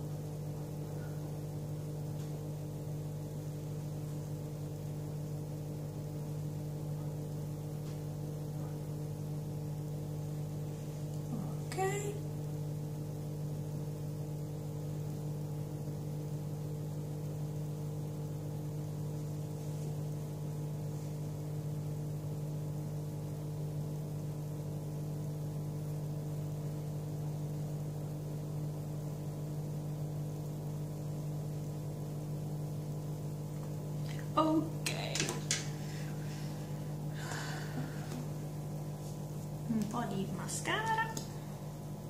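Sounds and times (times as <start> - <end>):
steady low hum with overtones: 0.0 - 42.0.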